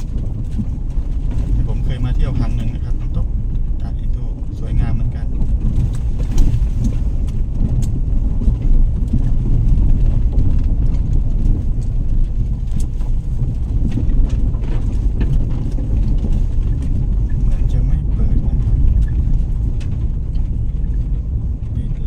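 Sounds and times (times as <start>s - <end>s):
loud low rumble: 0.0s - 22.0s.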